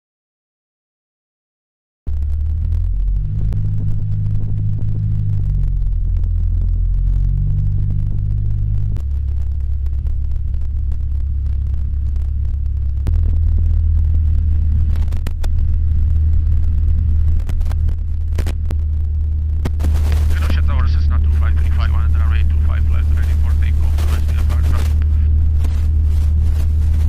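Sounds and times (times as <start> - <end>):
light airplane engine drone: 2.1 - 27.0
sharp clicks: 3.4 - 25.2.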